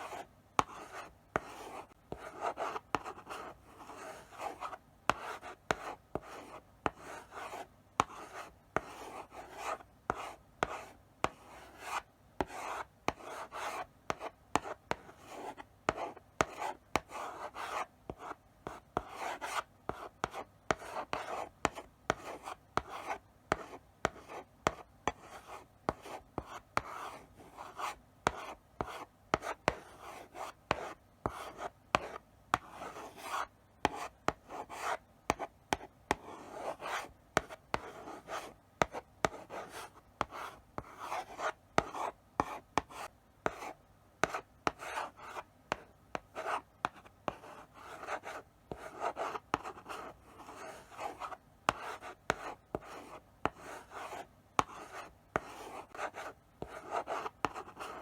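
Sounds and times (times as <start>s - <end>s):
chalk scratching on blackboard: 0.0s - 58.0s.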